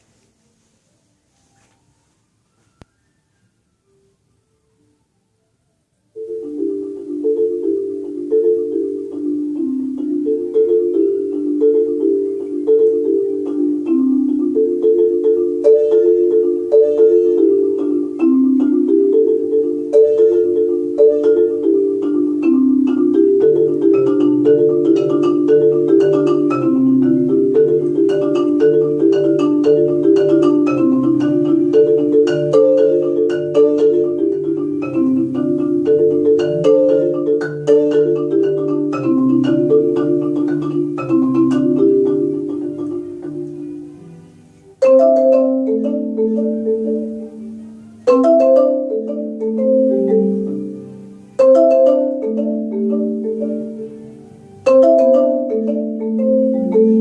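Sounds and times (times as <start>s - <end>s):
marimba: 6.1s - 57.0s.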